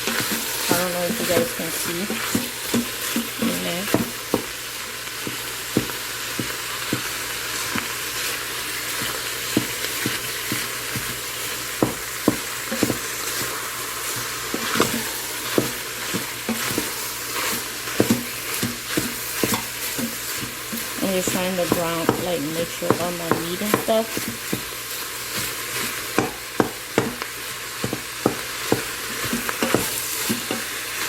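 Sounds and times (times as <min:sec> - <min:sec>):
meat sizzling in a pot: 0:00.0 - 0:31.0.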